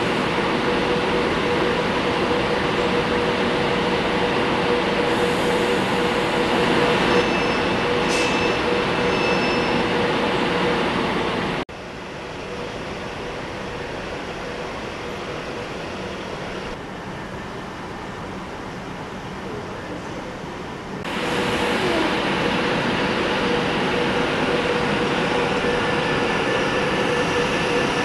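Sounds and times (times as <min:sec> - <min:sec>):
electric train humming: 0:00.0 - 0:28.0.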